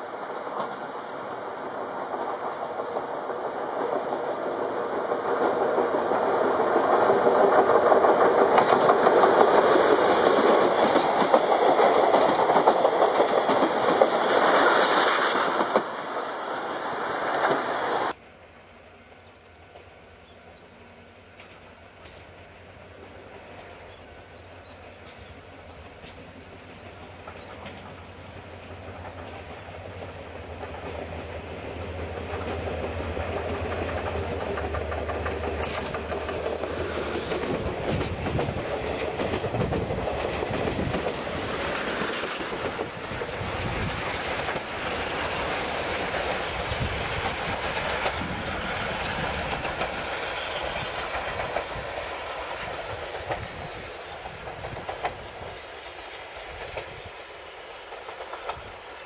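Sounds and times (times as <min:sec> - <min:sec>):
wheels clicking over rail joints: 0:00.0 - 0:18.2, 0:23.6 - 0:59.0
passenger train passing: 0:00.0 - 0:59.0.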